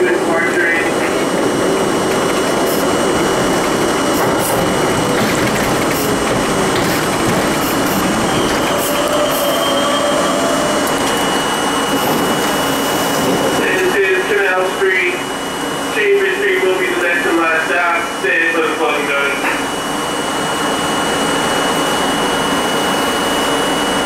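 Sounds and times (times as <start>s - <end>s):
subway wheels rumbling on rail: 0.0s - 24.0s.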